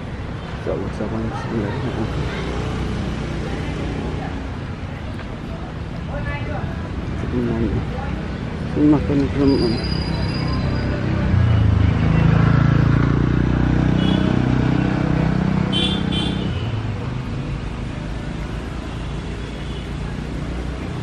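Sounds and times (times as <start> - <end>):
street noise: 0.0 - 21.0.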